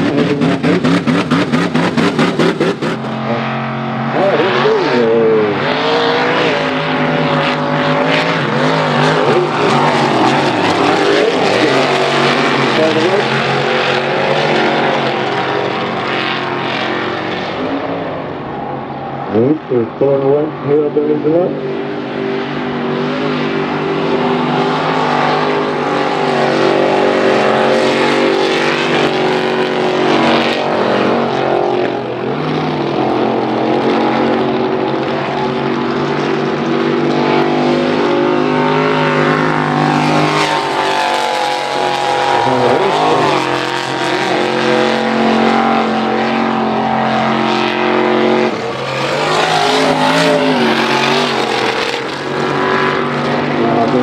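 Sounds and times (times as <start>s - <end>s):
truck engine at full throttle: 0.0s - 54.0s.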